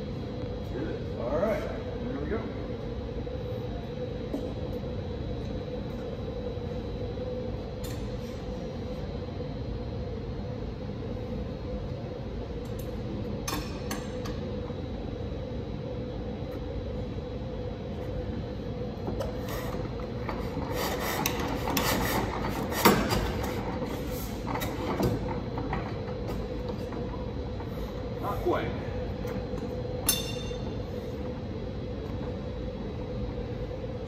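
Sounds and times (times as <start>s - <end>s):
ventilation system hum: 0.0s - 34.0s.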